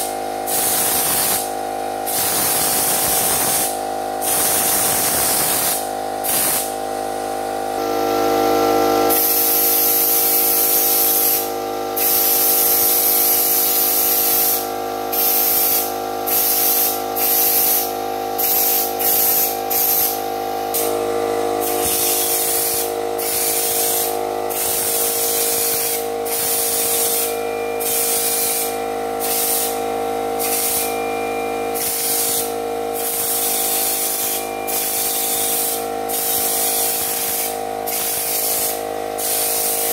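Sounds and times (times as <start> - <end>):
steady motor hum: 0.0 - 39.9
spray gun hissing: 0.5 - 1.5, 2.1 - 6.7, 9.1 - 20.9, 21.6 - 29.8, 30.4 - 30.9, 31.8 - 39.9.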